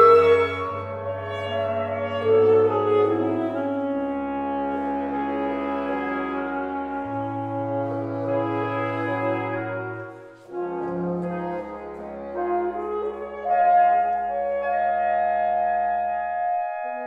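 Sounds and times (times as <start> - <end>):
reed ensemble playing held chords: 0.0 - 16.2.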